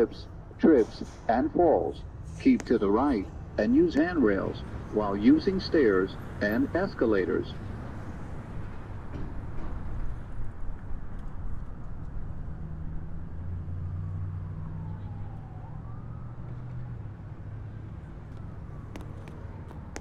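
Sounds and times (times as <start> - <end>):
faint siren wailing: 0.0 - 9.0, 10.4 - 20.0.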